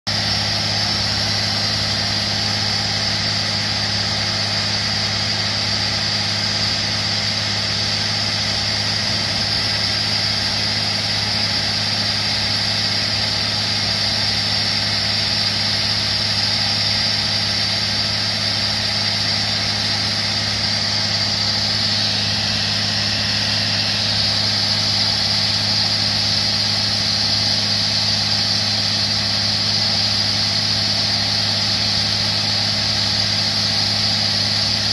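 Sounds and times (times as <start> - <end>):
drilling rig engine hum: 0.1 - 34.9.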